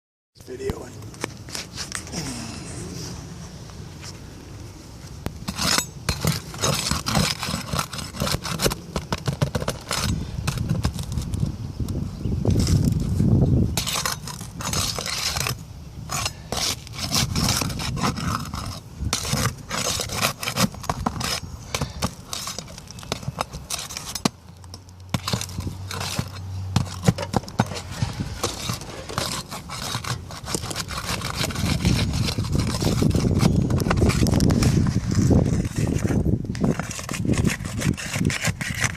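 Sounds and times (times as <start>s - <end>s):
scraping and rubbing: 0.5s - 4.2s, 4.9s - 11.6s, 12.4s - 38.9s.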